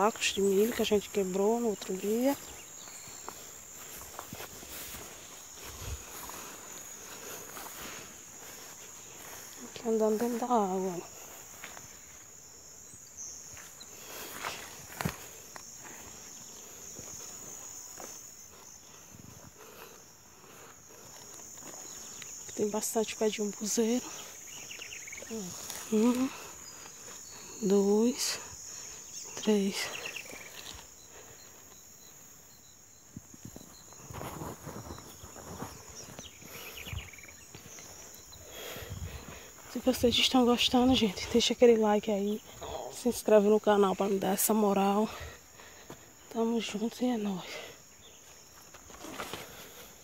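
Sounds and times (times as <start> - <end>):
footsteps through tall grass: 0.0 - 42.6, 47.5 - 50.0
insects droning: 0.0 - 50.0.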